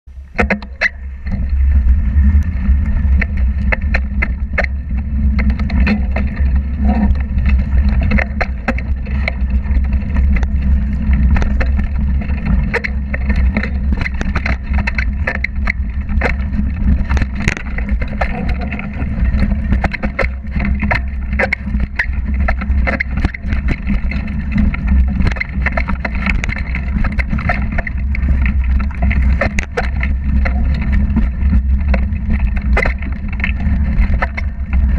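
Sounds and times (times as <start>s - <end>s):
wind rumble on microphone: 0.1s - 34.9s
bike rattling over ground: 0.2s - 34.9s.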